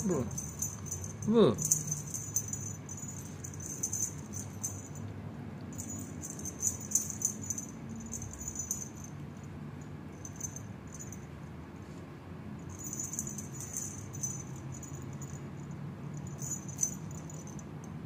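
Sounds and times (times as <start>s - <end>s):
cat toy jingling: 0.0s - 5.0s, 5.7s - 9.5s, 10.1s - 11.3s, 12.6s - 18.0s.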